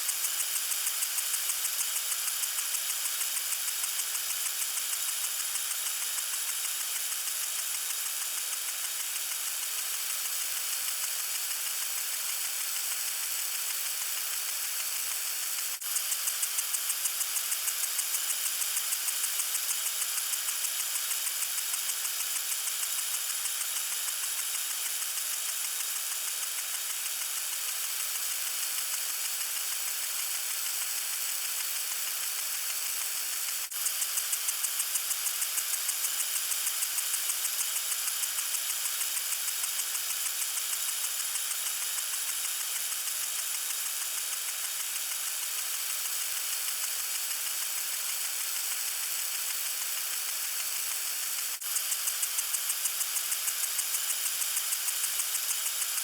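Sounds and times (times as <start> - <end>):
water sprinkler spraying: 0.0 - 56.0
sprinkler spray pulsing: 0.1 - 56.0.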